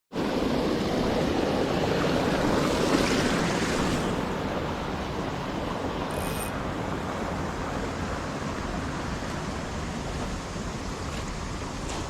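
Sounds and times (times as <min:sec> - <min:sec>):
stream water rushing: 0:00.1 - 0:12.0.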